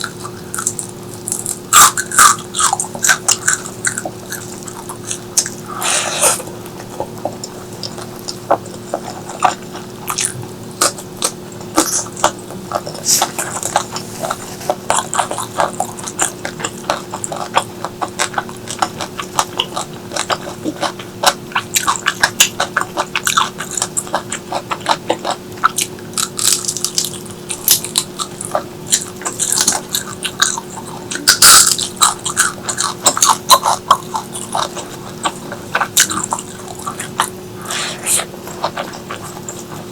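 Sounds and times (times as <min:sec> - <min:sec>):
steady low hum: 0:00.0 - 0:39.9
wet chewing and smacking: 0:00.0 - 0:39.9.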